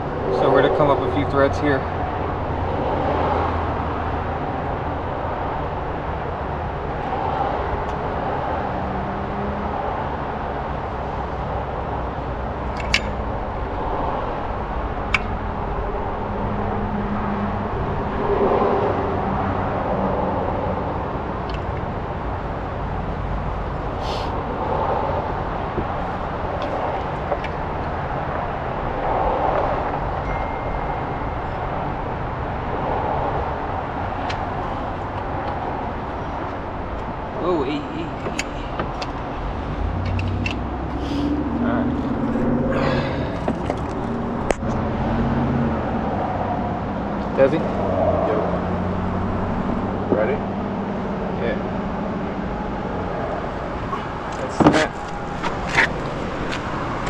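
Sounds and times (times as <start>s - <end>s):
outdoor background rumble: 0.0s - 57.0s.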